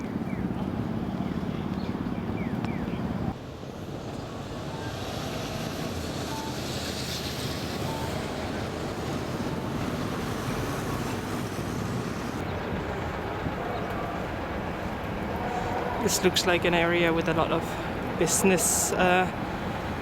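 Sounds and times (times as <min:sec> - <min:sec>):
road traffic going by: 0:00.0 - 0:20.0
wind rumbling on microphone: 0:00.0 - 0:20.0.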